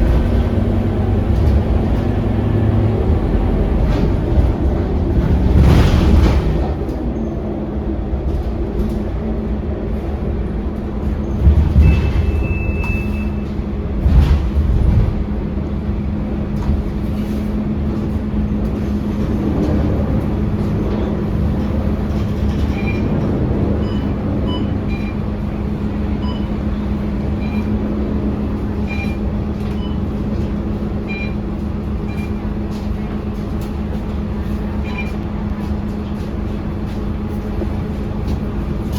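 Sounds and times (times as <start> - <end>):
bus engine drone: 0.0 - 38.9
low road rumble: 0.0 - 38.9.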